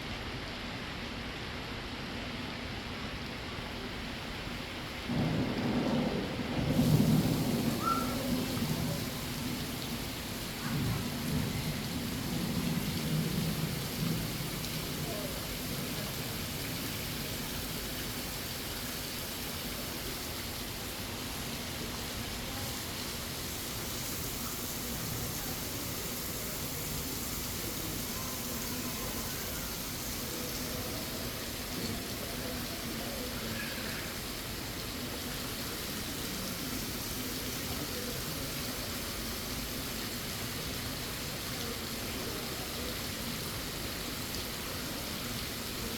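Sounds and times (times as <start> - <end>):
faint indistinct voices: 3.6 - 45.9.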